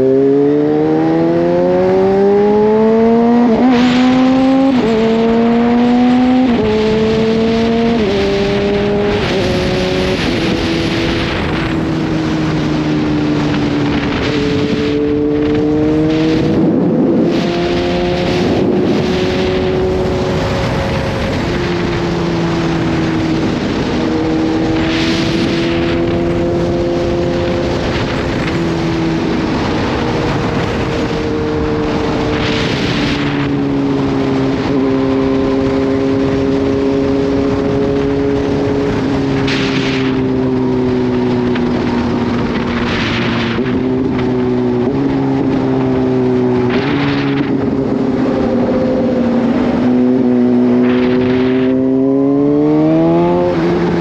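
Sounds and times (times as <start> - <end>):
motorcycle engine accelerating: 0.0 - 54.0
wind rushing: 0.0 - 54.0.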